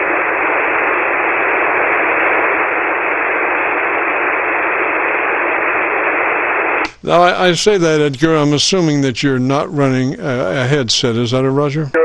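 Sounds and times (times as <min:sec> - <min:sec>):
radio receiver static hiss: 0:00.0 - 0:12.0.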